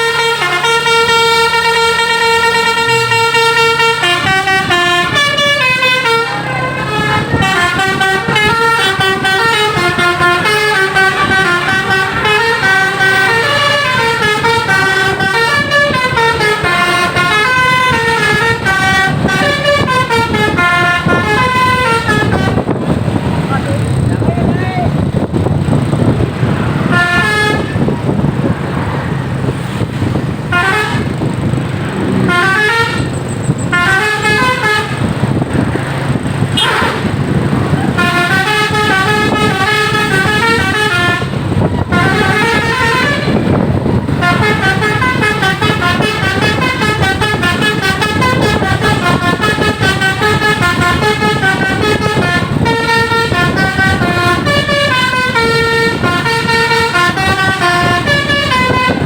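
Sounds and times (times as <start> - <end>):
bus horn playing melodic runs: 0.0 - 23.4, 25.9 - 59.0
bus engine: 0.0 - 59.0
road noise: 0.0 - 59.0.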